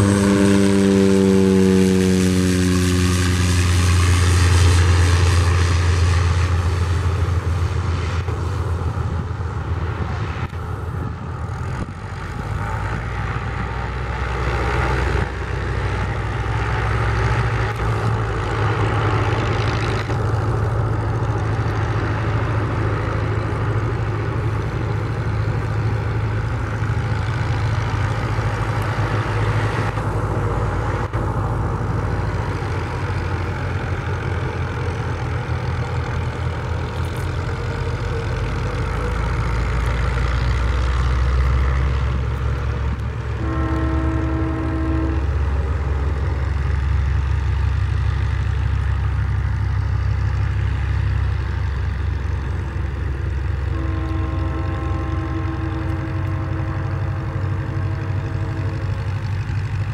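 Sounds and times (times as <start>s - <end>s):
turboprop plane taxiing: 0.0s - 59.9s.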